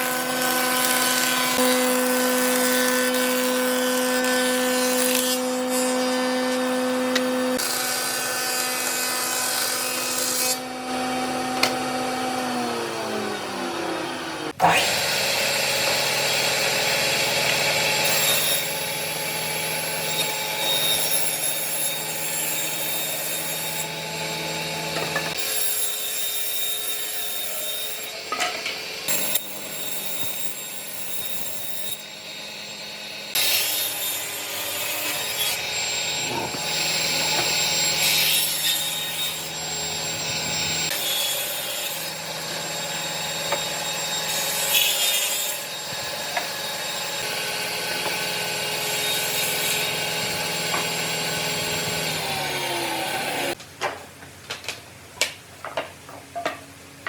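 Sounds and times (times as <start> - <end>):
power tool cutting wood: 0.0 - 53.6.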